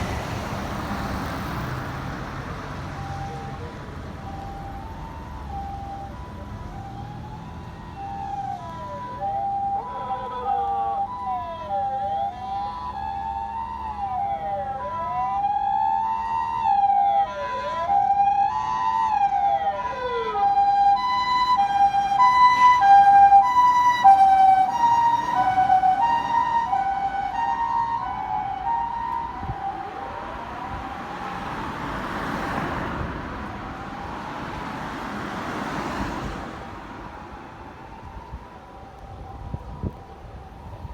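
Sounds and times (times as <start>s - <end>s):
rising and falling siren wail: 0.0s - 40.9s
two-tone ambulance siren: 0.0s - 40.9s.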